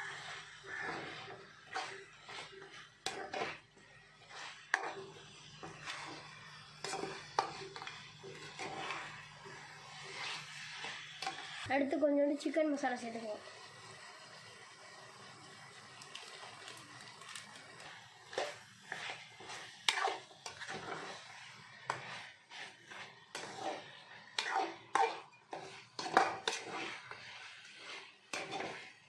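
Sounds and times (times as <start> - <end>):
metal spatula scraping a pan: 0.0 - 11.7, 16.0 - 29.0.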